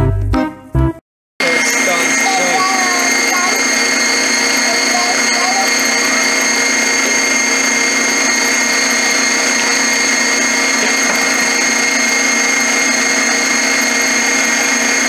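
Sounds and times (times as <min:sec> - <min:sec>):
stand mixer motor whining: 0:01.4 - 0:15.0.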